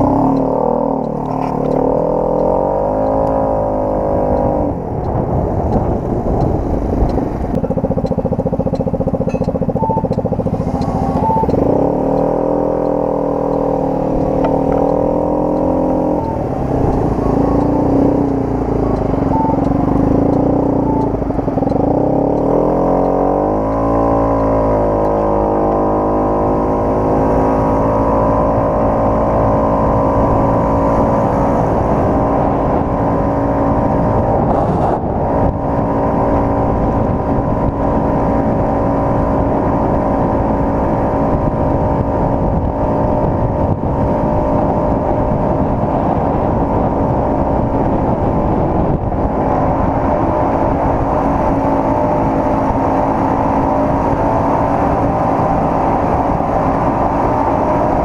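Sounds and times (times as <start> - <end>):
scooter engine cruising: 0.0 - 58.0
wind and road noise: 0.0 - 58.0.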